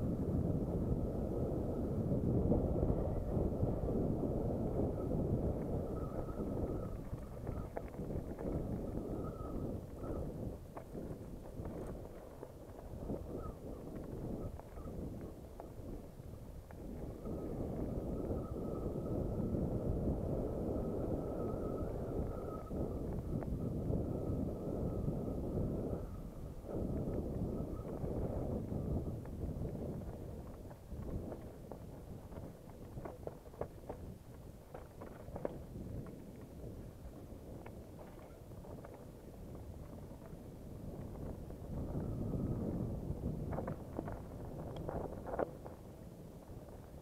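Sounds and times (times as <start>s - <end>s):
bike tyres rumbling on stony trail: 0.0s - 47.0s
thin steady whine: 0.0s - 47.0s
wind rushing over microphone: 0.0s - 47.0s.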